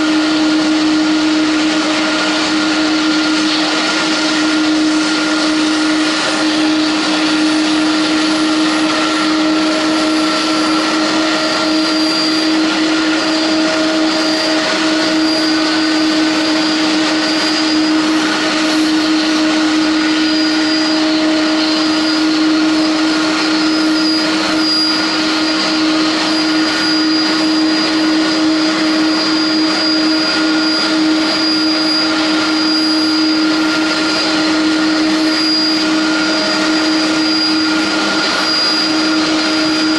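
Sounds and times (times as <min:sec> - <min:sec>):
jet turbines running: 0:00.0 - 0:39.9.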